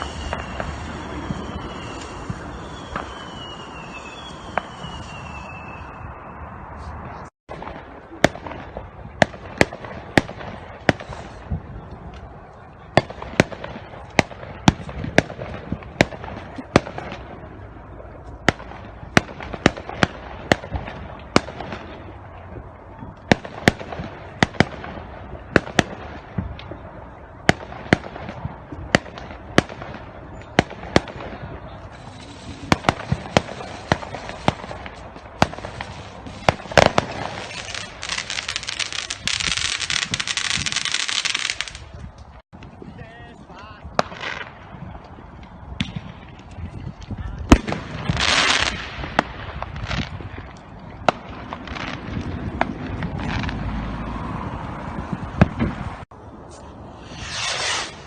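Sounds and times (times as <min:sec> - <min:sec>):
fireworks bangs: 0:00.0 - 0:56.1, 0:57.0 - 0:58.0.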